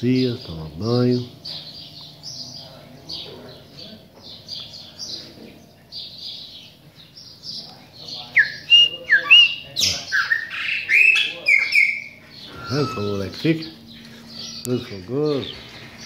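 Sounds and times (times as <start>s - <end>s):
birds chirping: 0.0s - 16.0s
birds whistling downward: 0.0s - 16.0s.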